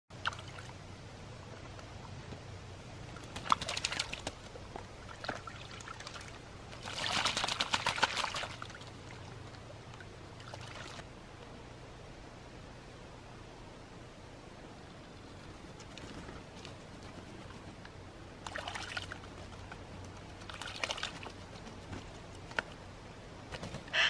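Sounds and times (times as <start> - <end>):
bird splashing water: 0.1 - 11.2, 15.1 - 24.0.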